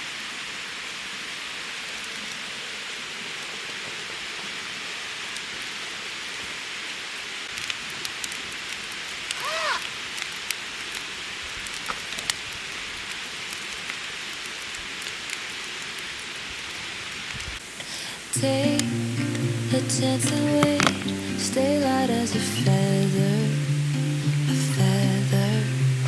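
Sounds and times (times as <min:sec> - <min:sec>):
steady hiss like rain: 0:00.0 - 0:26.0.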